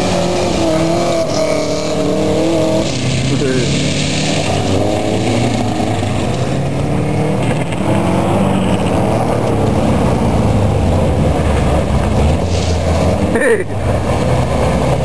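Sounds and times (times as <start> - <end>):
gravel hissing from spinning tyres: 0.0 - 6.9, 7.5 - 15.0
car engine revving: 0.0 - 15.0.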